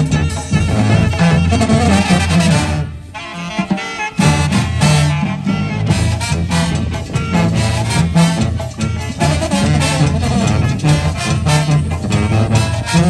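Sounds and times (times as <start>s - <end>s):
brass band playing: 0.0s - 13.0s
drums: 0.0s - 13.0s
tuba bass line: 0.0s - 13.0s.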